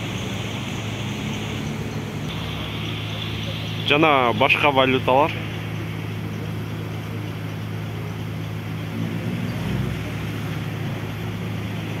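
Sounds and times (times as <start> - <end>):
street traffic engine hum: 0.0 - 12.0.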